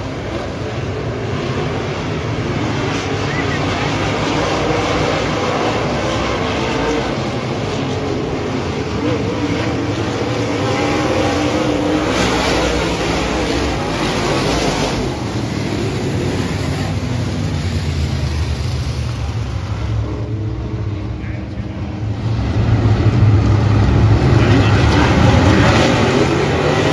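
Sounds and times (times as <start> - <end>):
race car engines: 0.0 - 26.9.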